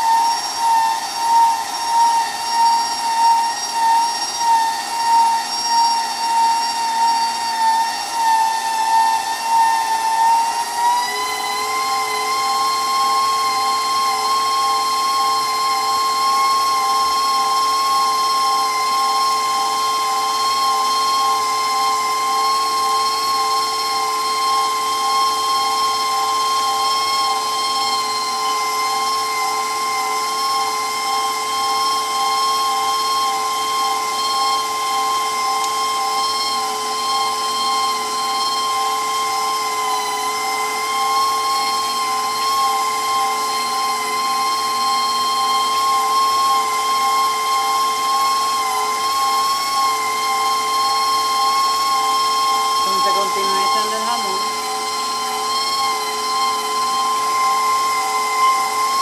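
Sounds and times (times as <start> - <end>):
mixer motor whining: 0.0 - 59.0.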